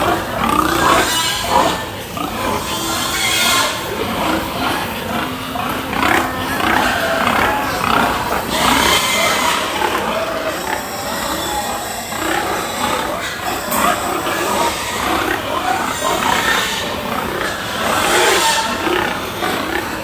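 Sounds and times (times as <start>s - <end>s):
pigs calling: 0.0s - 20.0s.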